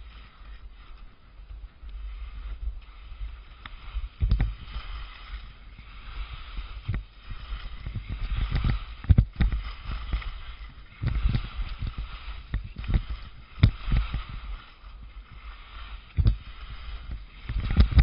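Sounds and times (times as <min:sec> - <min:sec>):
skis scraping over snow: 0:00.0 - 0:18.0.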